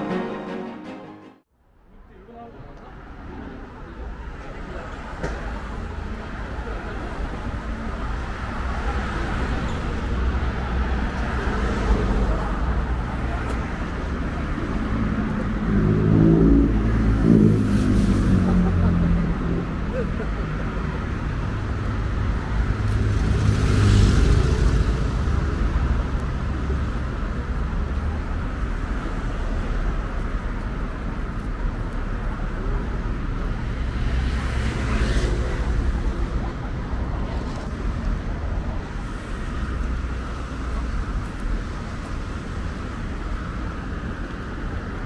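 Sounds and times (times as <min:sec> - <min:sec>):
rumble of city traffic: 0:01.4 - 0:45.0
vehicles passing: 0:01.6 - 0:45.0.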